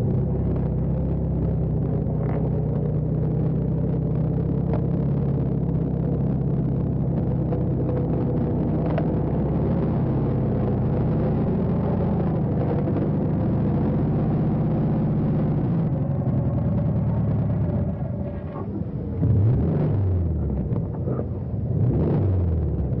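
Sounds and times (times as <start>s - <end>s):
car engine running and revving: 0.0s - 23.0s.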